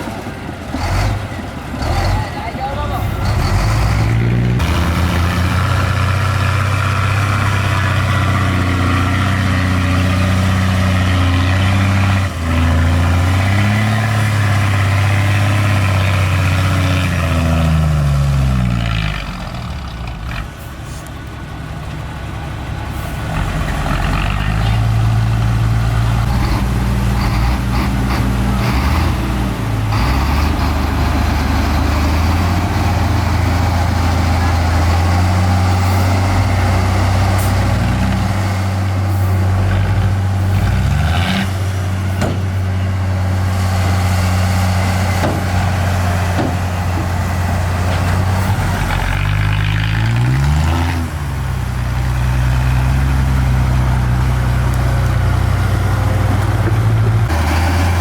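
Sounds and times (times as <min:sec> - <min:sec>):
diesel engines revving under load: 0:00.0 - 0:58.0.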